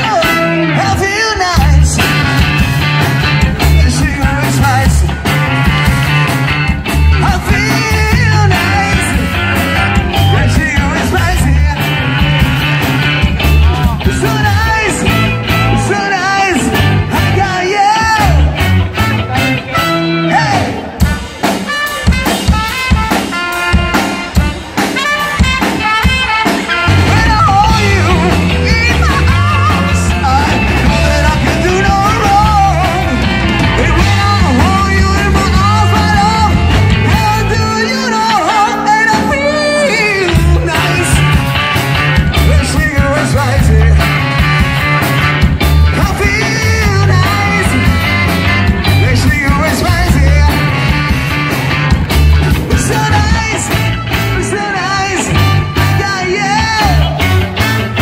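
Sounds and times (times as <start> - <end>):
person singing: 0.0 - 6.0, 7.1 - 25.7, 26.5 - 45.1, 45.8 - 51.4, 52.4 - 58.0
live soul-rock band: 0.0 - 58.0.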